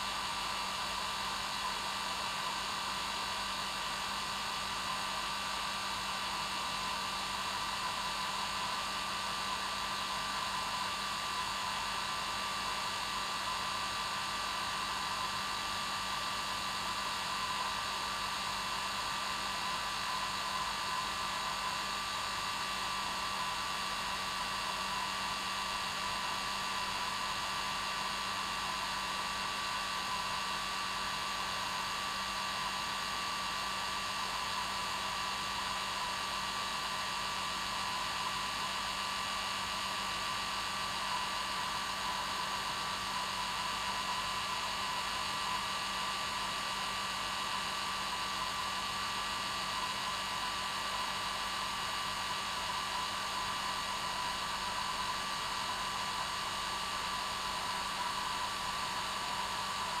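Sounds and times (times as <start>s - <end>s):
hair dryer running: 3.2s - 60.0s.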